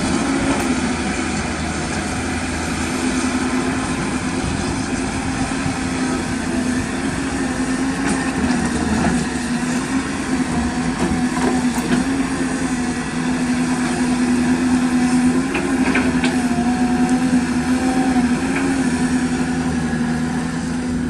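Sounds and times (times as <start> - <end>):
excavator diesel engine drone: 0.0 - 21.0.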